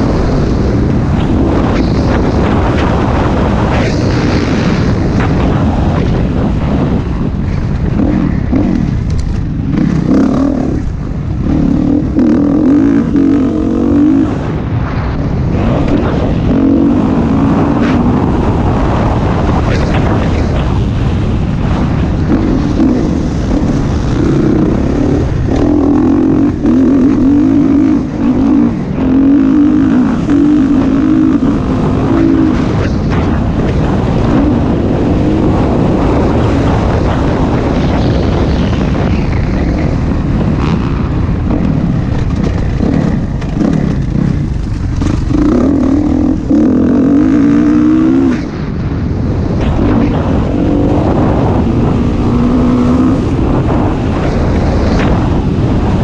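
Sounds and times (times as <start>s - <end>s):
dirt bike engine running hard: 0.0s - 56.0s.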